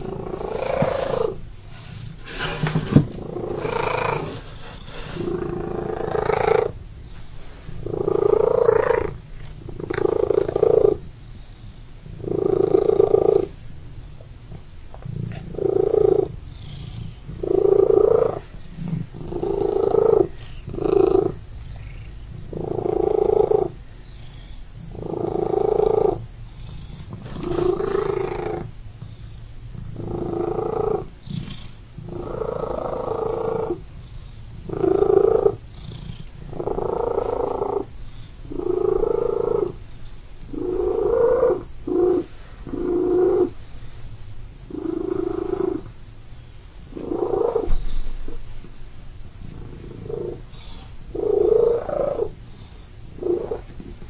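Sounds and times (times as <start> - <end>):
steady low rumble: 0.0 - 2.4, 3.0 - 4.6, 5.2 - 54.0
cat purring: 0.0 - 6.8, 7.7 - 13.6, 14.9 - 39.8, 40.4 - 43.7, 44.7 - 46.0, 46.9 - 48.4, 49.4 - 54.0.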